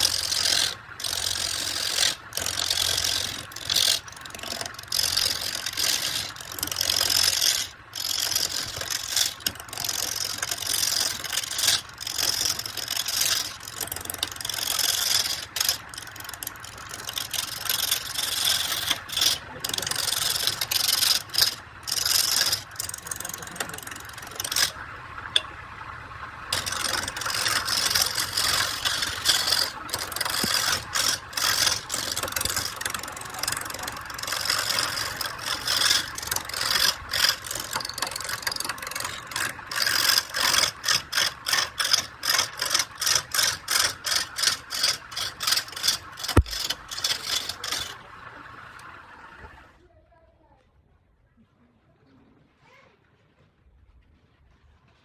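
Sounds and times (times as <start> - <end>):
lathe tool scraping wood: 0.0 - 24.8, 26.5 - 48.2.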